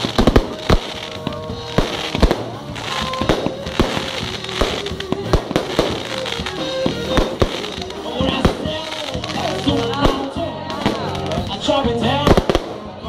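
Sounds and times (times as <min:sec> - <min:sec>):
fireworks bursting: 0:00.0 - 0:13.0
fireworks crackle: 0:00.0 - 0:13.0
music: 0:00.0 - 0:13.0.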